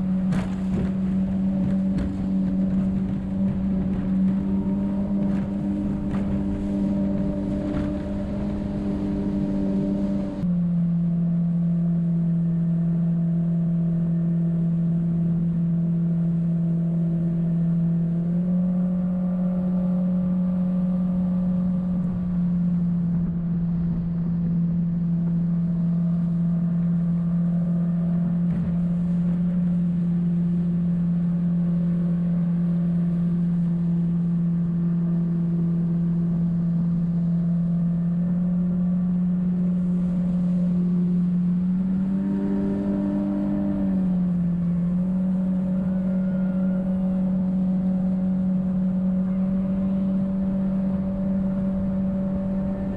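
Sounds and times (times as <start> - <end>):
boat engine drone: 0.0 - 52.9.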